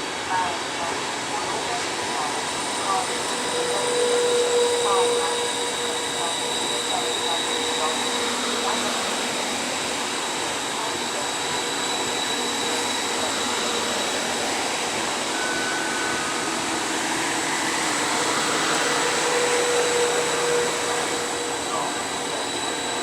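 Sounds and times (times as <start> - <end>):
train rushing noise: 0.0 - 23.0
faint whining tones: 0.3 - 23.0.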